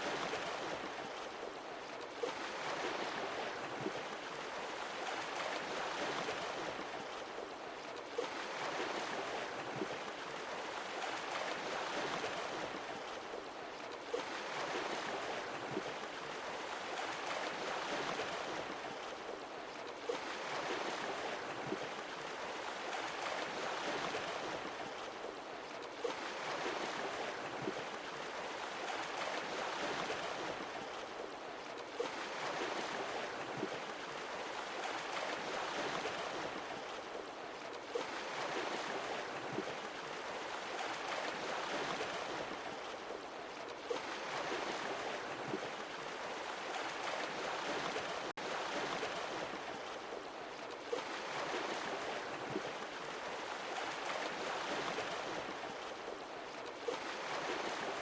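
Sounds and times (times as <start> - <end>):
sea waves washing on shore: 8.2 - 58.0.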